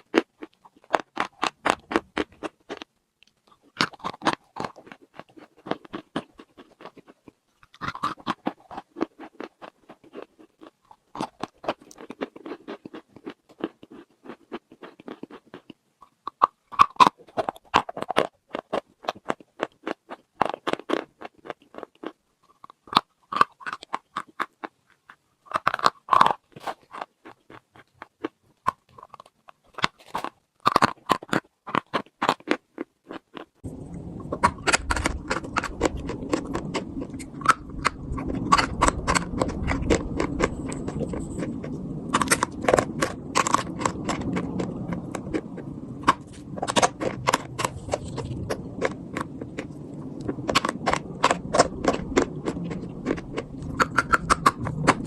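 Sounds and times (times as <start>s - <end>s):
chalk crunching being chewed: 0.0s - 55.0s.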